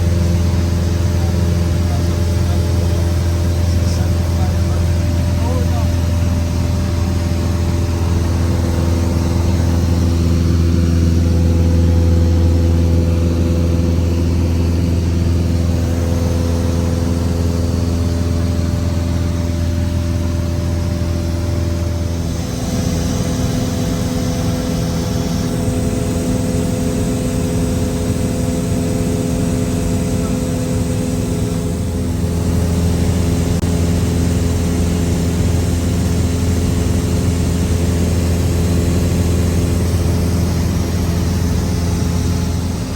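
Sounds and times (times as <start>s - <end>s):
propeller plane engine droning: 0.0s - 42.9s.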